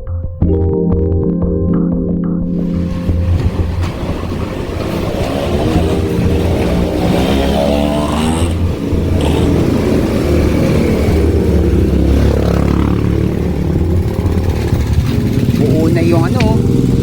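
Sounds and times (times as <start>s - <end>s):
engine accelerating: 2.5s - 17.0s
traffic engines rumbling: 2.6s - 17.0s.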